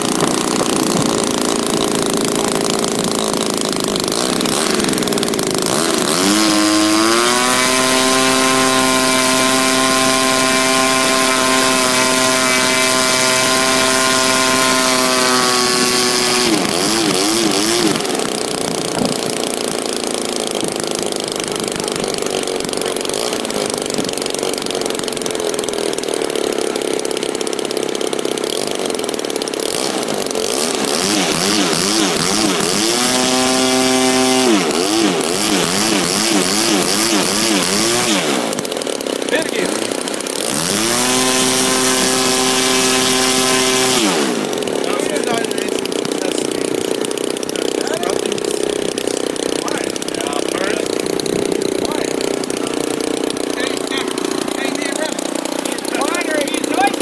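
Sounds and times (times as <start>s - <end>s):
model airplane engine: 0.0s - 57.0s.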